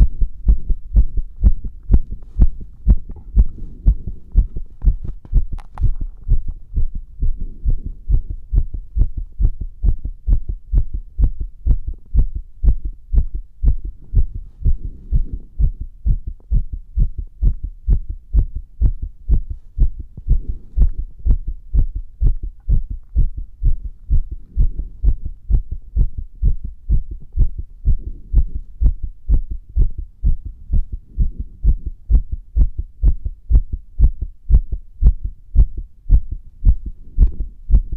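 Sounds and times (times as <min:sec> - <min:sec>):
heartbeat thuds: 0:00.0 - 0:37.9.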